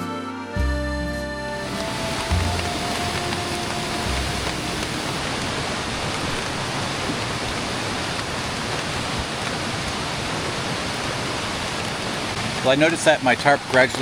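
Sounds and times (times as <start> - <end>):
steady hiss of water: 1.5 - 14.0.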